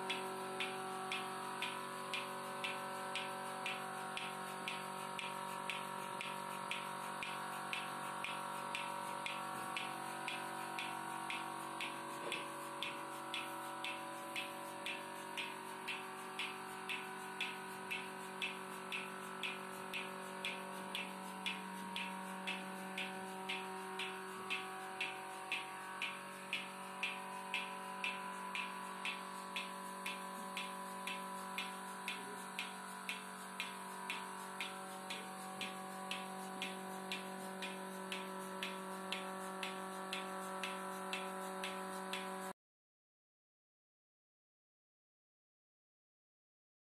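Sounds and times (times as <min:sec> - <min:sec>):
milking pulsator clicking: 0:00.0 - 0:42.5
vacuum pump hum: 0:00.0 - 0:42.5.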